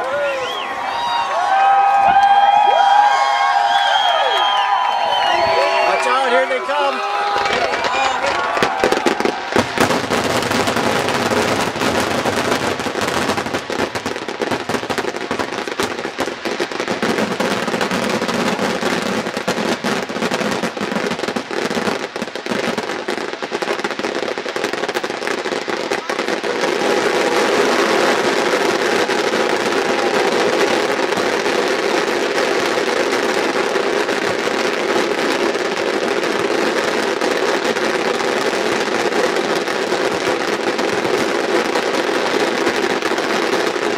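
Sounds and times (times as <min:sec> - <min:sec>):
fireworks bangs and crackling: 0:00.0 - 0:43.9.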